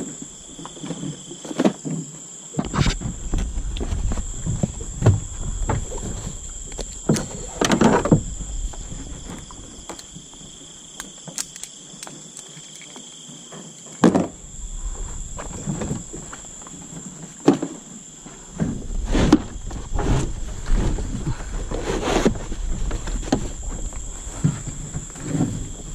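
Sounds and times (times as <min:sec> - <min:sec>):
night insects trilling: 0:00.0 - 0:25.9.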